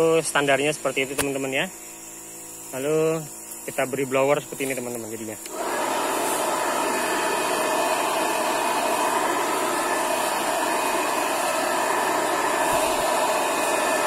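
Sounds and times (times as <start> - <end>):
electric blower whining: 0.0 - 14.0.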